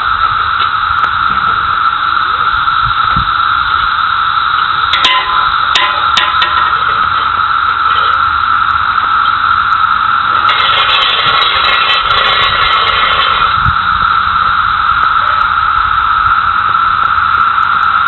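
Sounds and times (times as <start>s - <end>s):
cicadas droning: 0.0s - 18.0s
harsh hissing: 0.0s - 18.0s.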